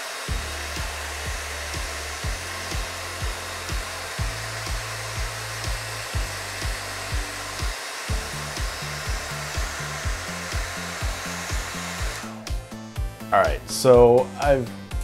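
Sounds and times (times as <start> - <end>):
background music with kick drum: 0.0 - 15.0
hair dryer blowing: 0.0 - 15.0.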